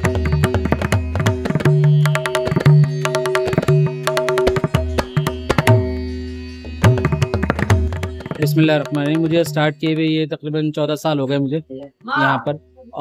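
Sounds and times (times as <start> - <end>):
tabla drumming: 0.0 - 10.9.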